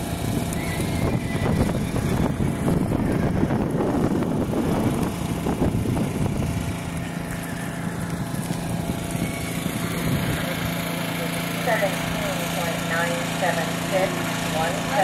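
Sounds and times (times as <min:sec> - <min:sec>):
racing engine running hard: 0:00.0 - 0:15.0.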